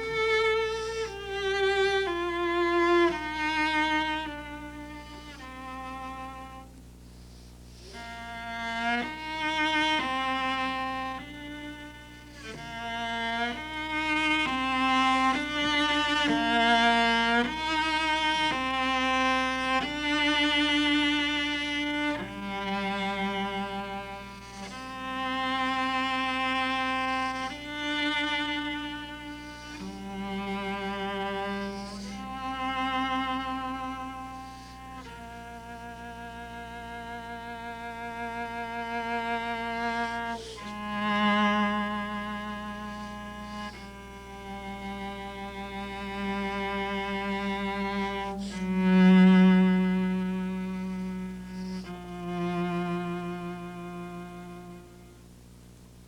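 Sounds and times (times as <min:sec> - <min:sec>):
solo cello bowed melody: 0:00.0 - 0:56.0.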